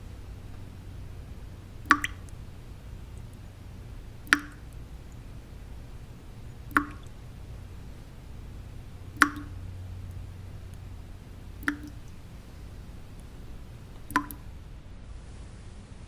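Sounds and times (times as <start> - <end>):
water drops dripping: 0.0 - 14.8
low rumbling noise: 0.0 - 16.0.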